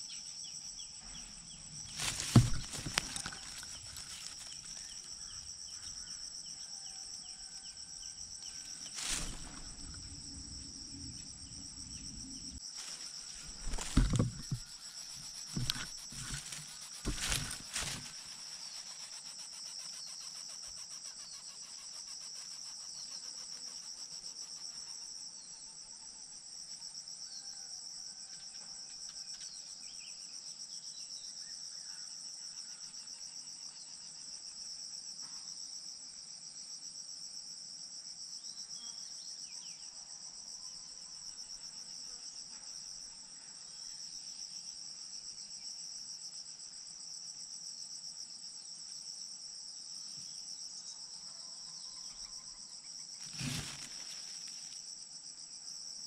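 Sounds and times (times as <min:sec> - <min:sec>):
chorus of trilling insects: 0:00.0 - 0:34.8, 0:37.9 - 0:56.0.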